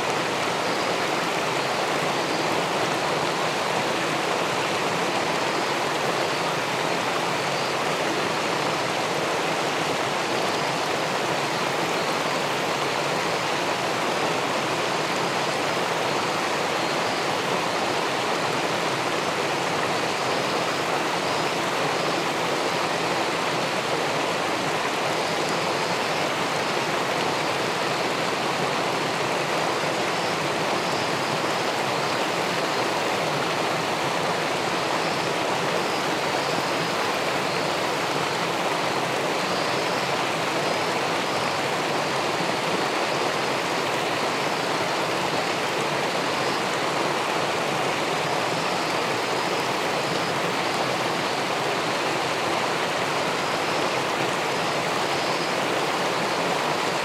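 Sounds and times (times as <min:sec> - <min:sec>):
river water rushing over weir: 0:00.0 - 0:57.0.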